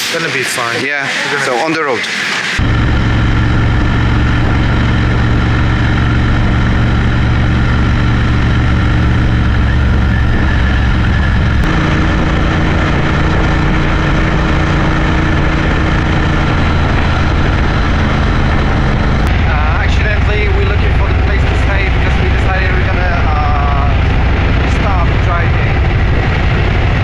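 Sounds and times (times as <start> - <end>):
motorcycle engine running: 2.4 - 27.0.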